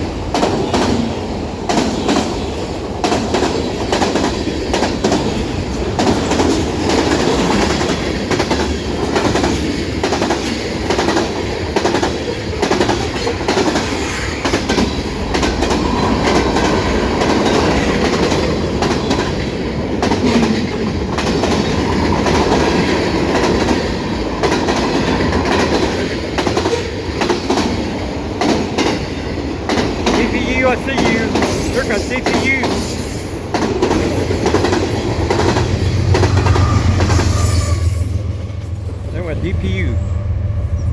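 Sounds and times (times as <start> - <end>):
wheels clacking over rail joints: 0.0 - 37.3
freight train rumbling: 0.0 - 40.9.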